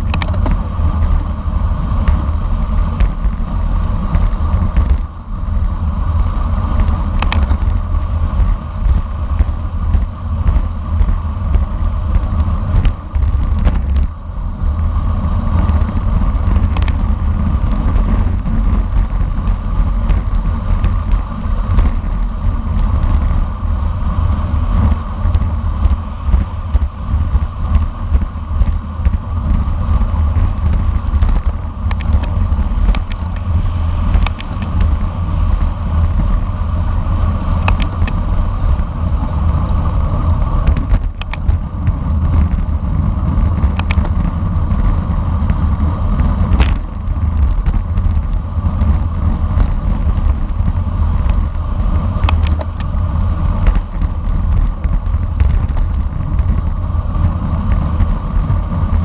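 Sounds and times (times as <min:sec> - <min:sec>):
tyre and road noise: 0:00.0 - 0:59.0
wind rushing over microphone: 0:00.0 - 0:59.0.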